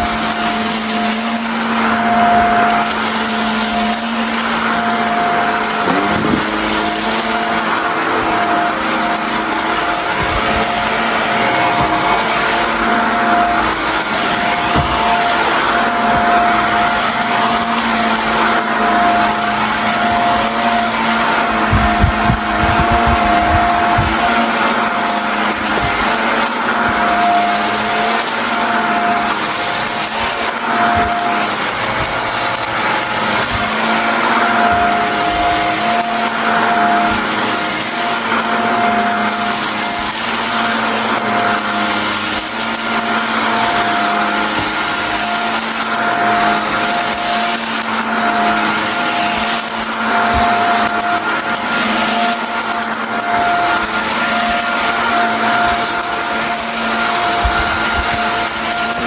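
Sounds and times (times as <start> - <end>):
crackles of debris being sucked up: 0.0 - 59.0
vacuum cleaner running: 0.0 - 59.0.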